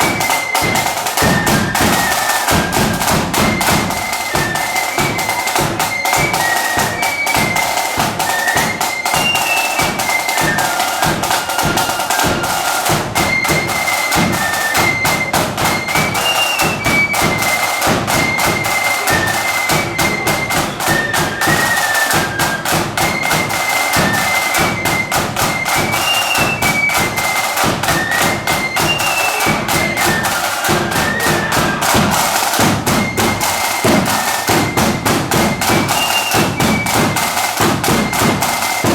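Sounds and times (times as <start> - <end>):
flutes playing high melody: 0.0 - 38.9
snare drumming: 0.0 - 38.9.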